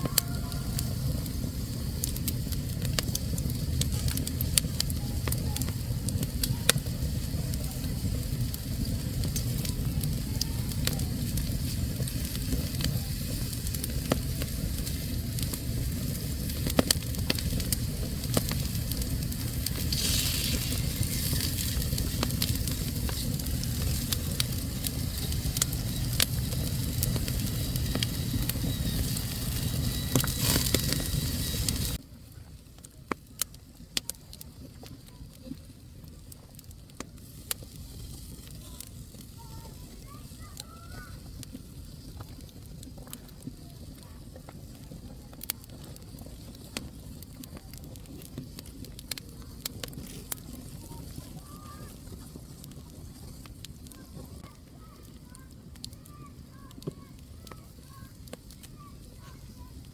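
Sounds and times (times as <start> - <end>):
low fire rumble: 0.0 - 59.9
wood fire crackling and popping: 0.0 - 59.9.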